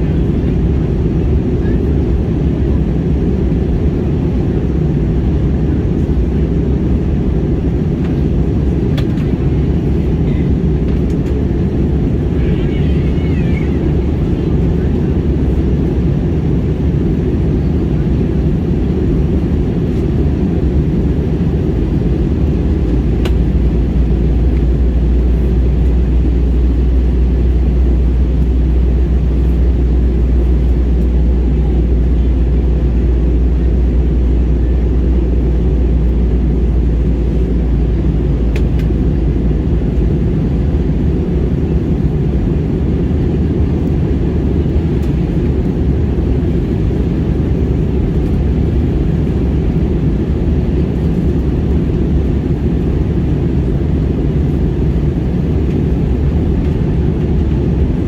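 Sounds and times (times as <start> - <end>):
airliner cabin jet rumble: 0.0 - 58.0.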